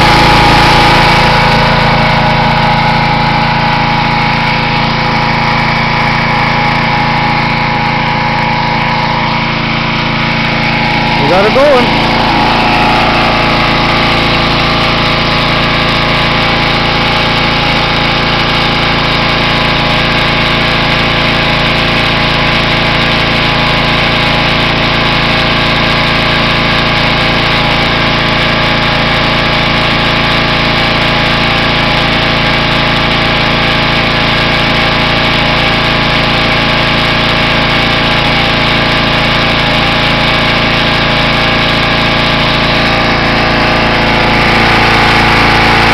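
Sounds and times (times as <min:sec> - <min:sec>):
pressure washer engine running: 0:00.0 - 0:45.9.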